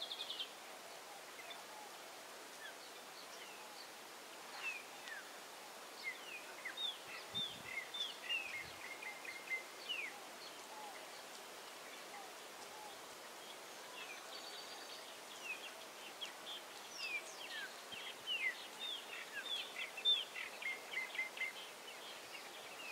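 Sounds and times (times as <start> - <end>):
steady outdoor hiss: 0.0 - 22.9.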